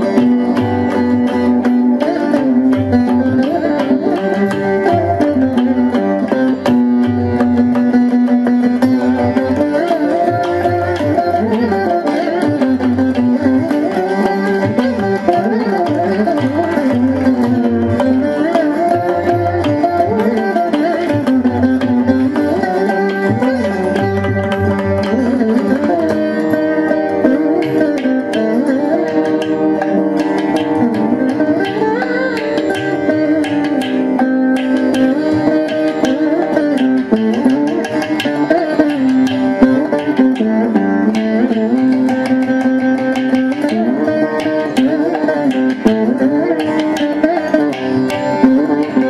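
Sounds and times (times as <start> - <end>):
hand drum: 0.0 - 49.0
plucked veena melody: 0.0 - 49.0.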